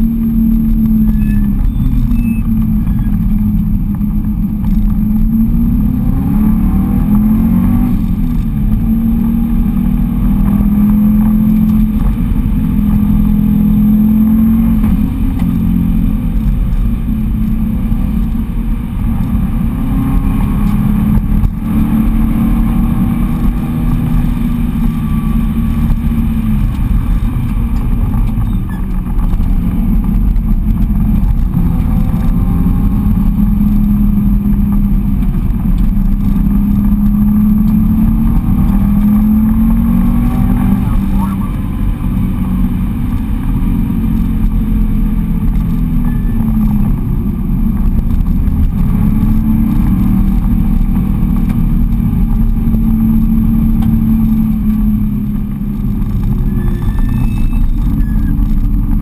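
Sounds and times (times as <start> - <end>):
road and wind rumble: 0.0 - 59.0
turbocharged engine revving: 0.0 - 59.0.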